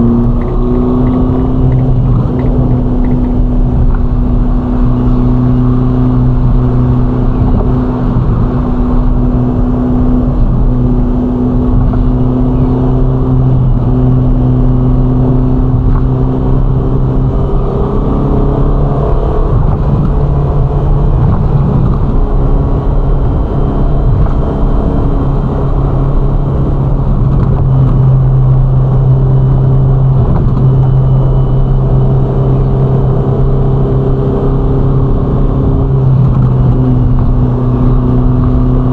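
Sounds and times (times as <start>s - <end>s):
car engine cruising: 0.0s - 38.9s
tyre and road noise: 0.0s - 38.9s.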